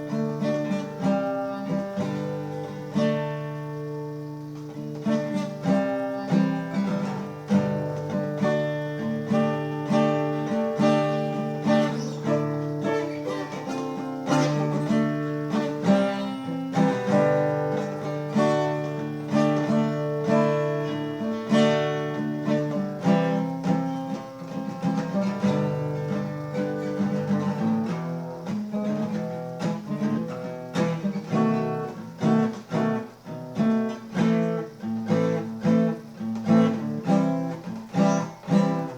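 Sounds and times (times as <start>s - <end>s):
acoustic guitar plucked and strummed: 0.0s - 38.9s.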